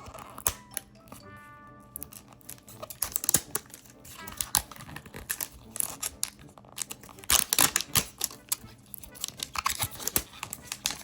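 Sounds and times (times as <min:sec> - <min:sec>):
toy packaging crackling: 0:00.0 - 0:11.0.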